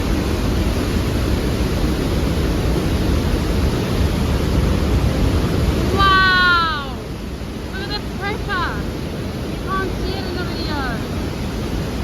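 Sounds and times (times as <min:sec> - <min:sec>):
rushing mountain torrent: 0:00.0 - 0:12.0.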